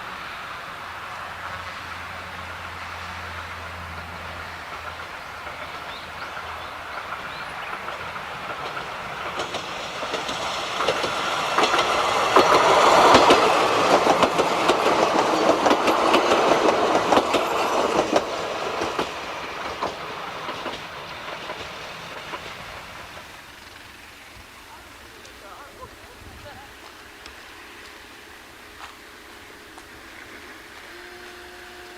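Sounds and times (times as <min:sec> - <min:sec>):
diesel train passing: 0:00.0 - 0:31.9
train wheels clicking over rail joints: 0:02.6 - 0:31.9.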